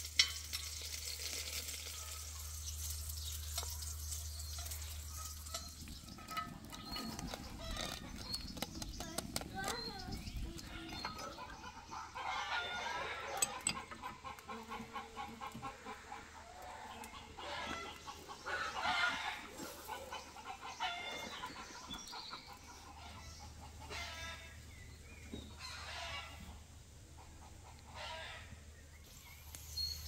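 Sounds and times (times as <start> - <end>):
chickens clucking: 0.0 - 28.7.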